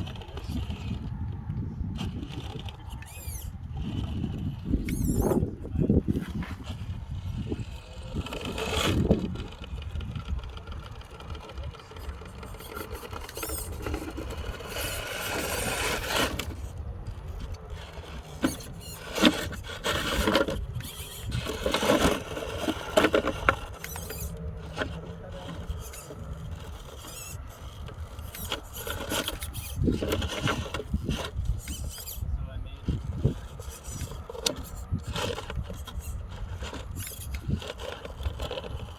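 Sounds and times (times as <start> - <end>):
electric motor whining: 0.0 - 38.9
tyres squealing and scraping: 0.0 - 38.9.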